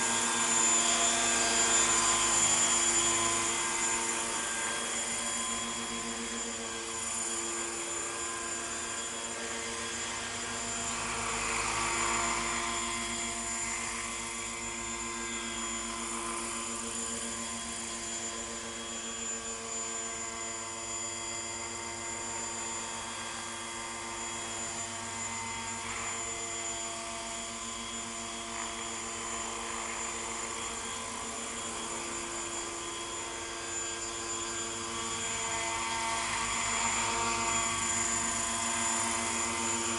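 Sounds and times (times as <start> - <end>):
high steady drive whine: 0.0 - 39.9
model helicopter rotor hum: 0.0 - 39.9.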